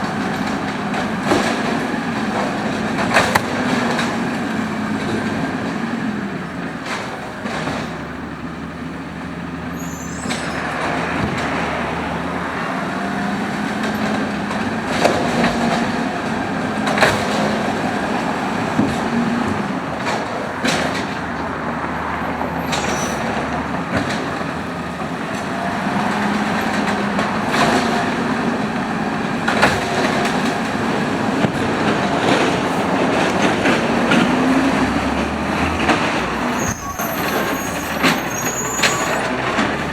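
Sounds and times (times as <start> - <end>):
garbage truck engine and hydraulics: 0.0 - 39.9.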